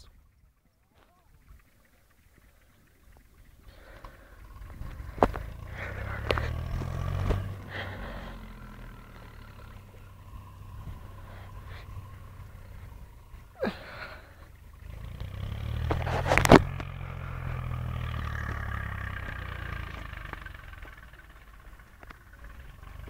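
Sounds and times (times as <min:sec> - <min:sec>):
vehicle engine rumbling past: 0:00.0 - 0:23.0.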